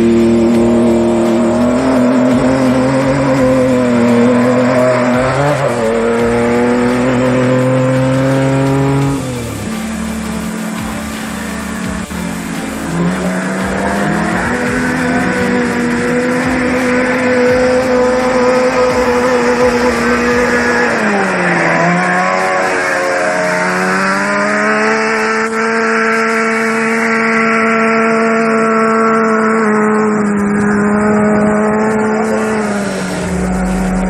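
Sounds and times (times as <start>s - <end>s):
race vehicle engine at high revs: 0.0s - 34.0s.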